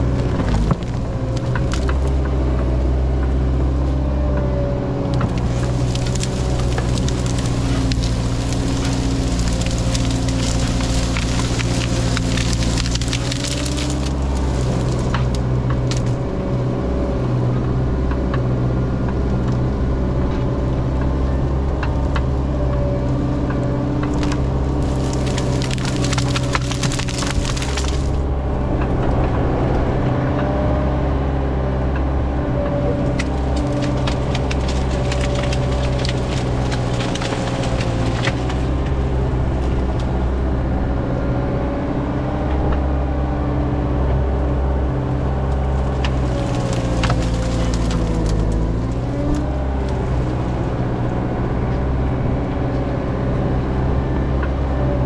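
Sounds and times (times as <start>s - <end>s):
wood cracking and splintering: 0.0s - 29.5s, 30.4s - 55.0s
diesel engine running: 0.0s - 55.0s.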